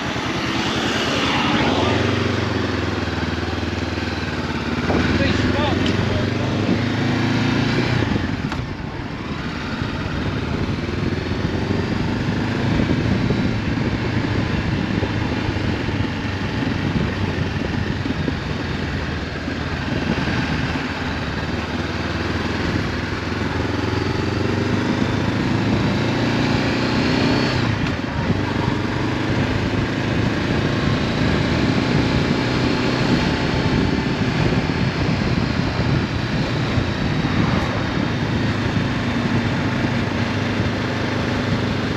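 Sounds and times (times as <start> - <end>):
wind noise: 0.0 - 21.5, 22.7 - 41.9
motorcycle engine revving: 0.0 - 41.9.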